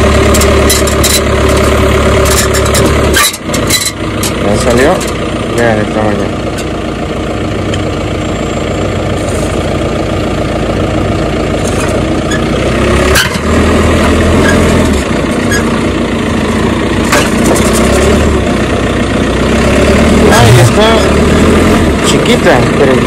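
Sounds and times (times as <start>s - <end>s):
tractor diesel engine drone: 0.0s - 23.0s.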